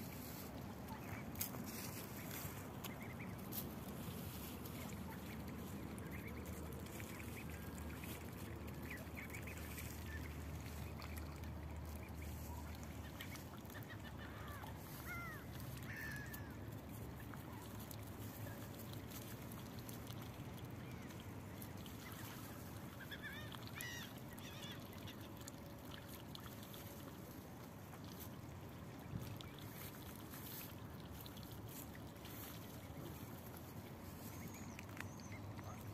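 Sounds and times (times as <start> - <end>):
ducks calling softly: 0.0 - 35.9.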